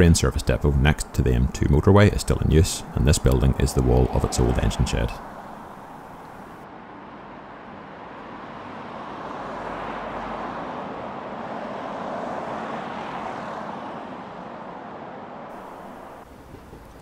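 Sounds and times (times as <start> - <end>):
vehicle passing: 1.2 - 6.6, 8.4 - 17.0.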